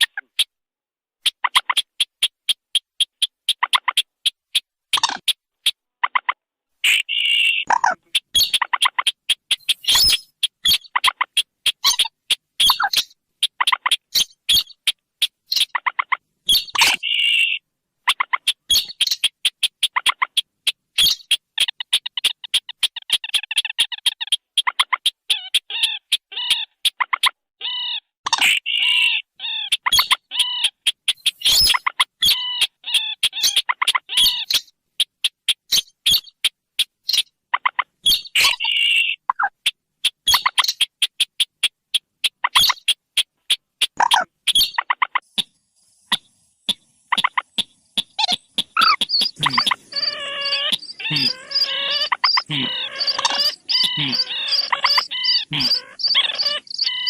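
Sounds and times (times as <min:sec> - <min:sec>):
bird chattering: 0:00.0 - 0:00.6, 0:01.2 - 0:57.0
rail bird calls ticking: 0:00.0 - 0:00.6, 0:01.2 - 0:57.0.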